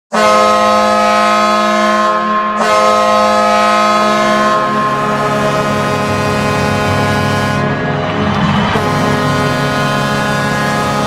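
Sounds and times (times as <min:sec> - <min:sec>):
goal horn blasting: 0:00.1 - 0:11.0.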